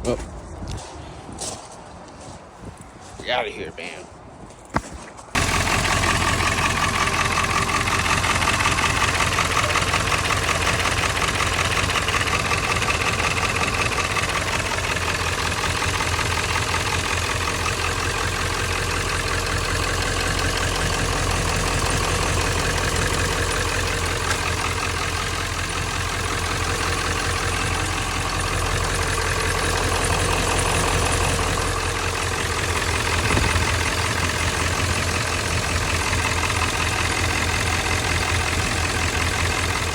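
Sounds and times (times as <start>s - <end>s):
vehicle engine running: 5.3s - 39.9s.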